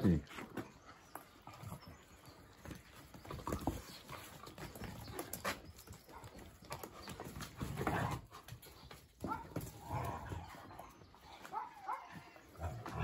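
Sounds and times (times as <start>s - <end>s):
puppies scuffling on dirt: 0.0s - 13.0s.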